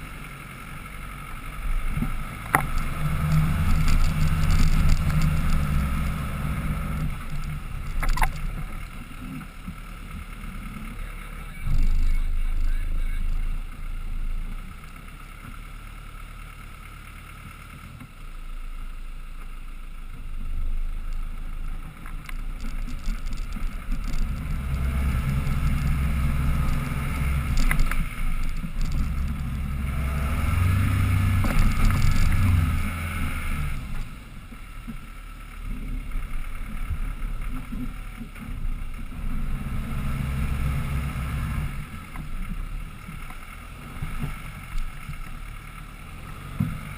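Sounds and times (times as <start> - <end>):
truck engine rumbling uphill: 0.0 - 46.9.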